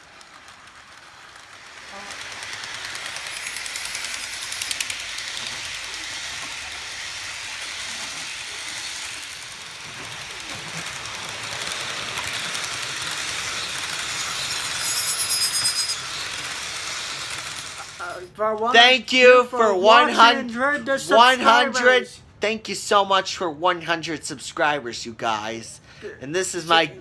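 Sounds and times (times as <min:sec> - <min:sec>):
model train wheels rolling: 0:00.0 - 0:21.8.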